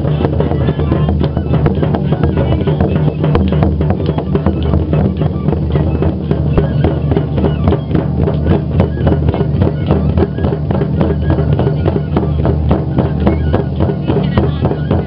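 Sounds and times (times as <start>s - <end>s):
drums in quick even rhythm: 0.0s - 15.0s.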